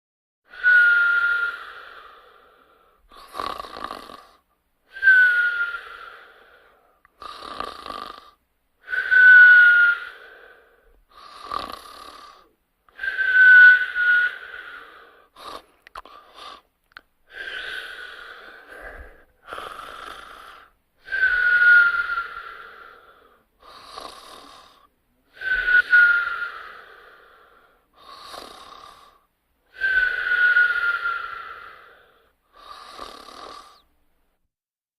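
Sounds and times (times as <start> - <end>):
whistling snores: 0.5 - 16.7, 17.3 - 33.9
rasping breath: 0.5 - 33.9.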